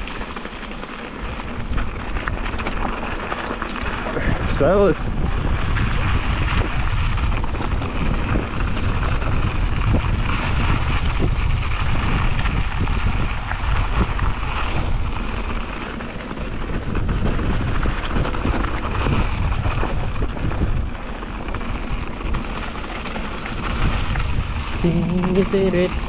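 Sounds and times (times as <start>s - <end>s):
bike clicks and rattles: 0.0s - 26.0s
bike tyres rumbling on dirt: 0.0s - 26.0s
wind buffeting microphone: 0.0s - 26.0s.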